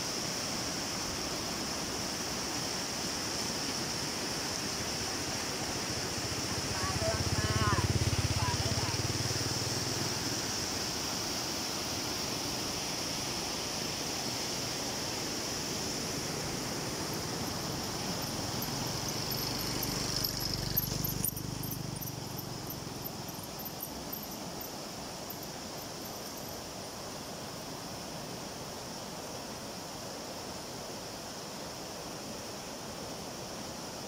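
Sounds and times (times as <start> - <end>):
water rushing through rapids: 0.0 - 34.0.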